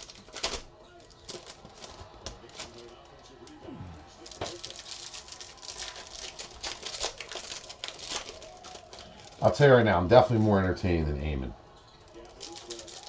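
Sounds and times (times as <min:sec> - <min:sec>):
foil wrappers crinkling and tearing: 0:00.0 - 0:09.7, 0:12.0 - 0:13.0.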